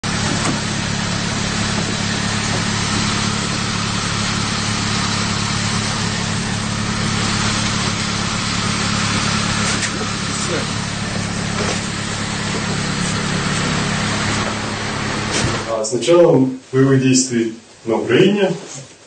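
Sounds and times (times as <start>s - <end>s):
vehicle engine idling: 0.0s - 15.9s
constant hiss: 0.0s - 19.0s.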